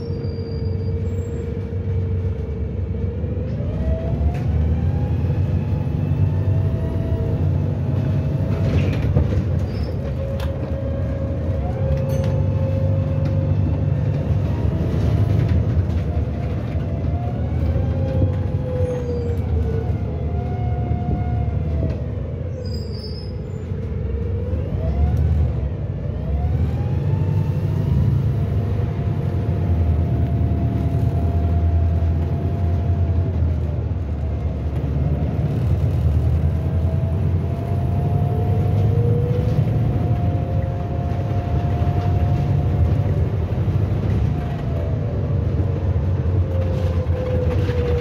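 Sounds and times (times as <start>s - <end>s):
bus engine and road drone: 0.0s - 48.0s
bus engine whine: 0.0s - 48.0s.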